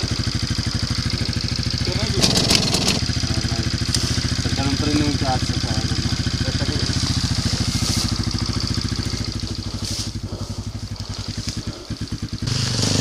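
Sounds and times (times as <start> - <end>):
dirt bike engine running close: 0.0 - 13.0
motorcycle engine idling: 0.0 - 13.0.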